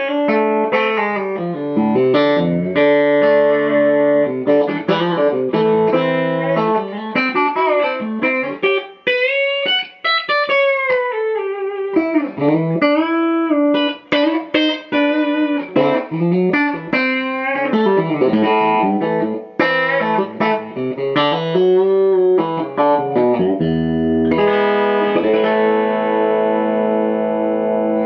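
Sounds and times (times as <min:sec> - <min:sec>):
clean electric guitar: 0:00.0 - 0:28.0.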